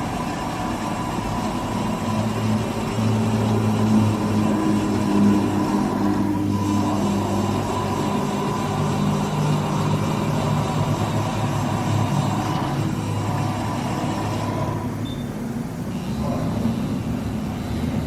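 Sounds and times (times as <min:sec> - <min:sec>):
milling machine humming: 0:00.0 - 0:18.0.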